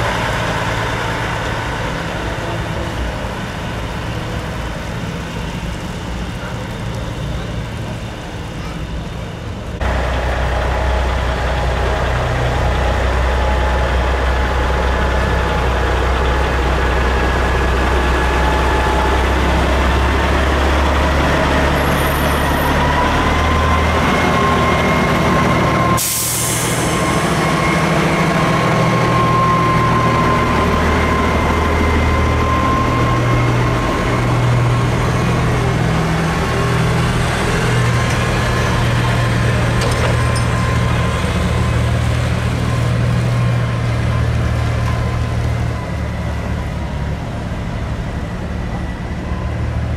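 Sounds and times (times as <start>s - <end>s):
truck diesel engines idling: 0.0s - 49.9s.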